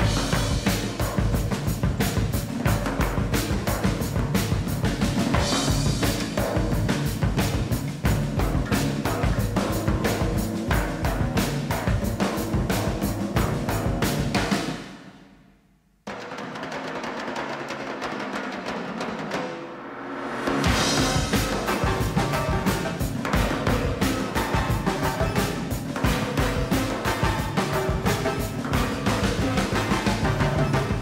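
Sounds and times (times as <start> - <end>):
music with drum beat: 0.0 - 15.2, 16.1 - 31.0.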